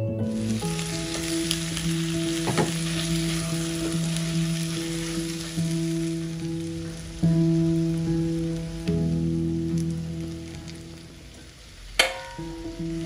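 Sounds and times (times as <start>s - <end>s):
soft background music: 0.0s - 13.0s
meat and potatoes sizzling in a pan: 0.2s - 13.0s.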